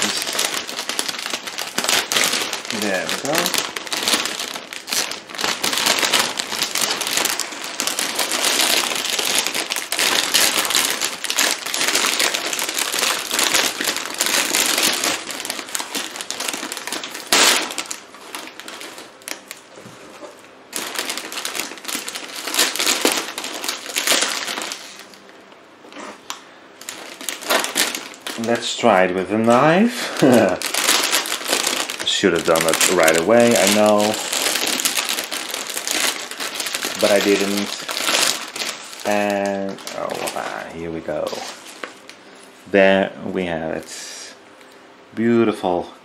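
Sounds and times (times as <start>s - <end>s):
plastic packaging crinkling: 0.0s - 42.6s.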